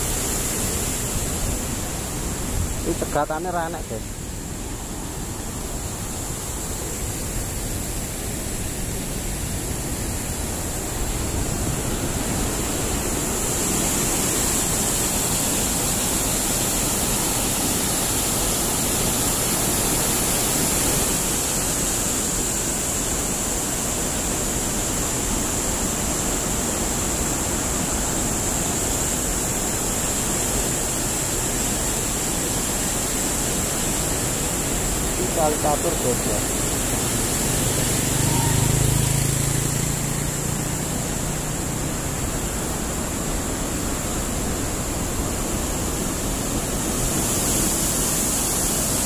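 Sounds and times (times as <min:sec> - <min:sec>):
river water rushing over rocks: 0:00.0 - 0:49.0.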